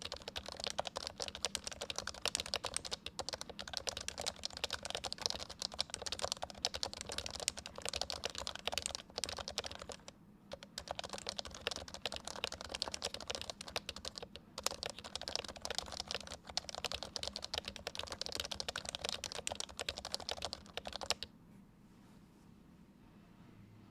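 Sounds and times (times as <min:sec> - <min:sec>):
fast keyboard typing: 0:00.0 - 0:21.3.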